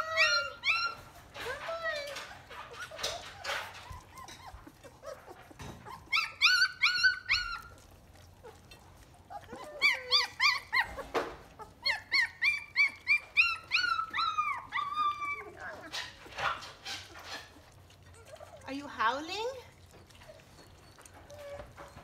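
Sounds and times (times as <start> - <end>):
puppies yelping: 0.0 - 22.0.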